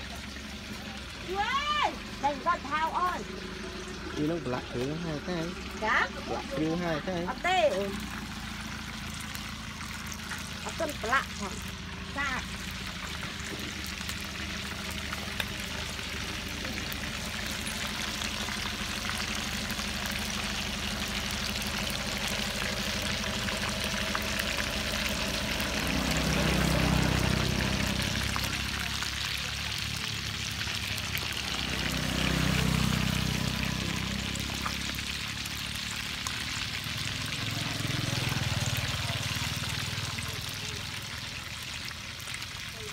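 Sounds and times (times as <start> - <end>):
low rumbles: 0.0 - 42.4
hot oil sizzling in a wok: 0.0 - 42.9.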